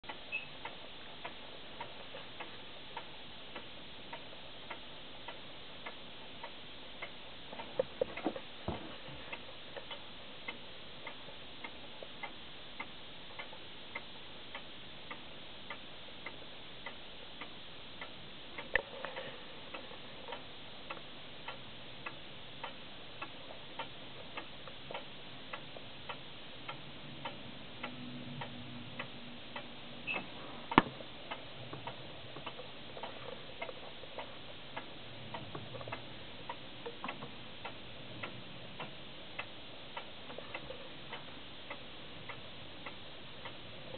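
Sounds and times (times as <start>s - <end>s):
wall clock ticking: 0.1s - 43.9s.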